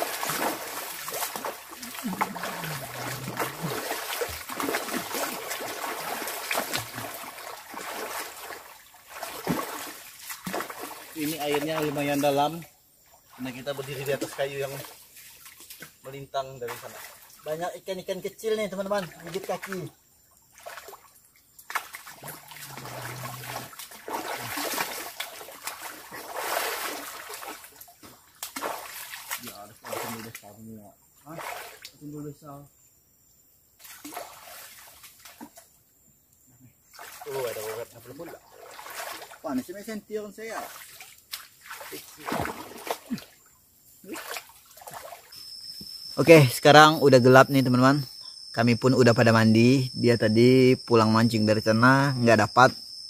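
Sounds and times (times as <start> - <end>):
water splashing and trickling: 0.0 - 32.6, 33.8 - 35.8, 36.8 - 48.1.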